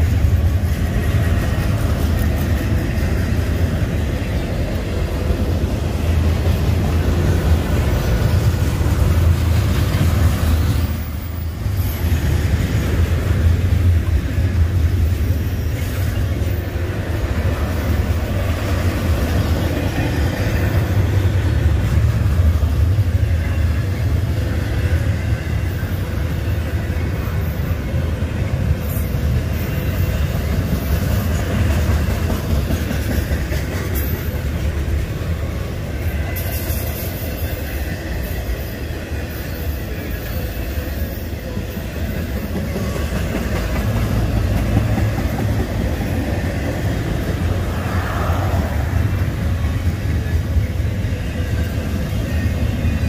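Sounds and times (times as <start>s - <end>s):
freight train passing: 0.0s - 53.0s.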